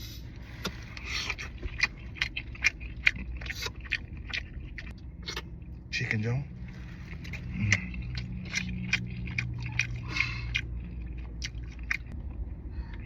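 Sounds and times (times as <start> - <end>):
low steady hum: 0.0 - 13.0
chewing: 0.4 - 13.0.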